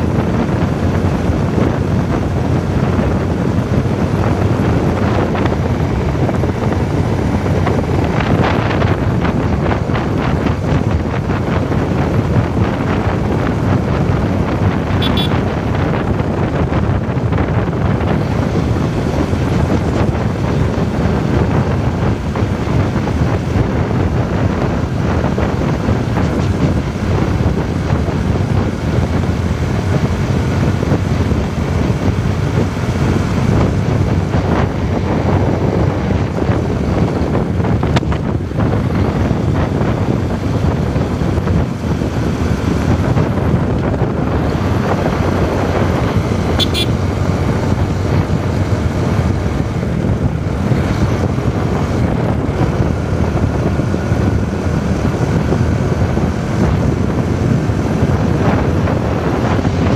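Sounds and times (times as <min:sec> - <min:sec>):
motorcycle engine: 0:00.0 - 0:59.9
wind buffeting microphone: 0:00.0 - 0:59.9.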